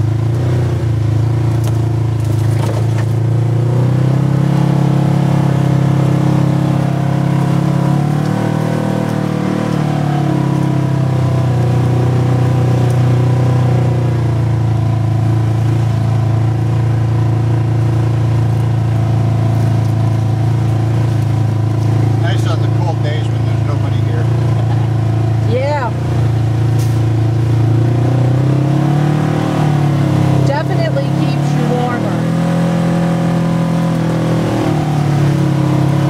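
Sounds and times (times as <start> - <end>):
off-road vehicle engine running: 0.0 - 36.0.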